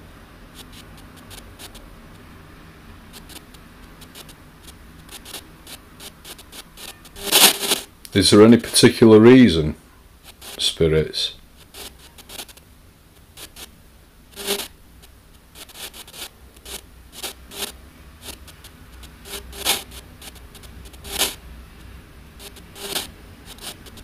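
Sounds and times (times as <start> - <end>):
low steady hum: 0.0 - 24.0
scratchy hissing noise bursts: 0.0 - 24.0.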